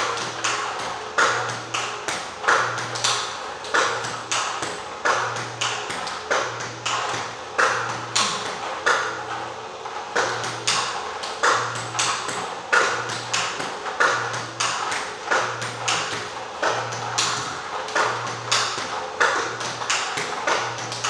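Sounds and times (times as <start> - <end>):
table tennis ball hits and bounces: 0.0 - 9.3, 10.1 - 21.0.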